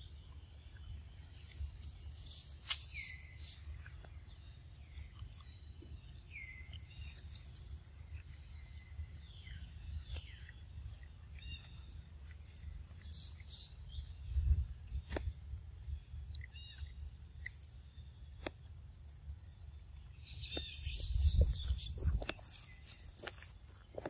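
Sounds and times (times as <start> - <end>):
birds chirping: 0.0 - 24.0
low steady rumble: 0.0 - 24.0.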